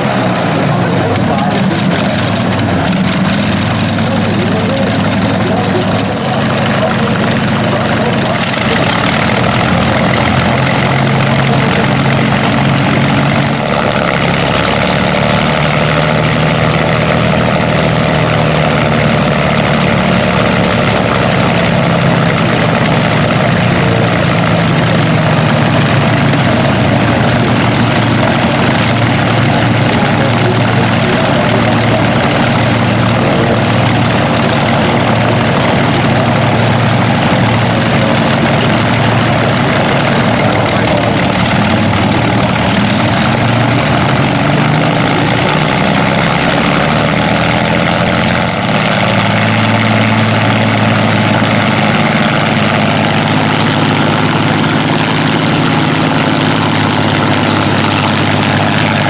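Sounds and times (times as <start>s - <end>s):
aero engine idling: 0.0s - 59.0s.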